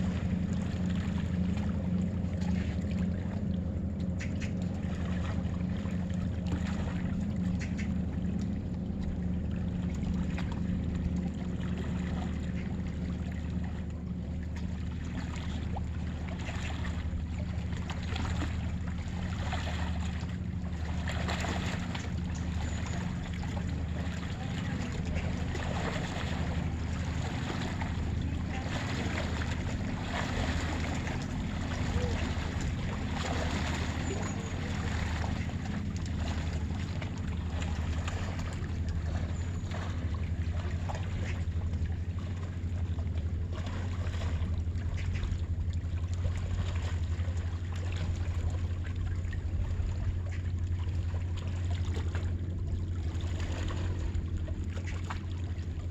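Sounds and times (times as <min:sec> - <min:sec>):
low rumble: 0:00.0 - 0:55.9
waves: 0:00.0 - 0:55.9
wind: 0:00.0 - 0:55.9.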